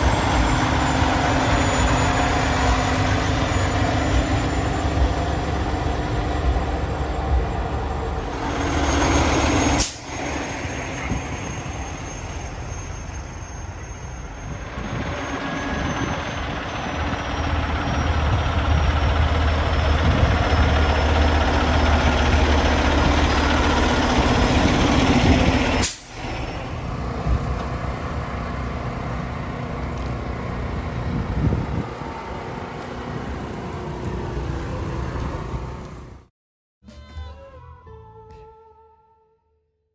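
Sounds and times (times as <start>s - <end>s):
truck diesel engines rumbling: 0.0s - 36.3s.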